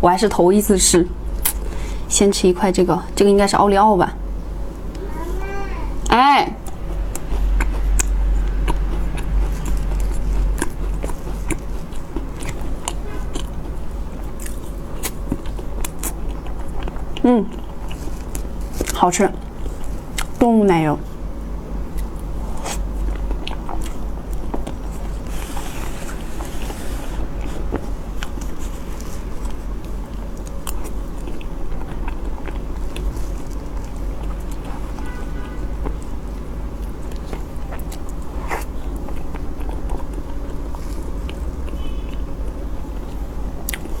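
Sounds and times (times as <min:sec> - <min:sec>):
steady low hum: 0:00.0 - 0:44.0
chewing and biting cake: 0:06.6 - 0:44.0.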